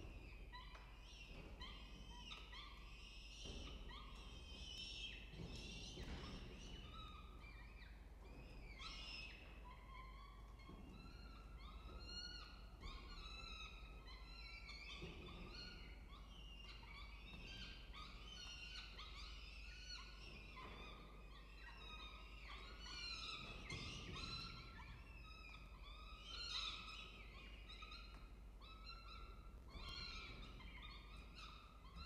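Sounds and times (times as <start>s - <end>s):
falcon chicks chirping: 0.0s - 32.0s.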